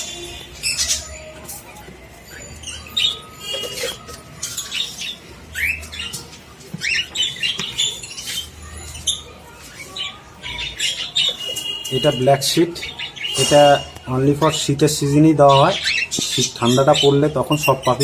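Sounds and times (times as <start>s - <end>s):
parrots chirping and calling: 0.0s - 18.0s.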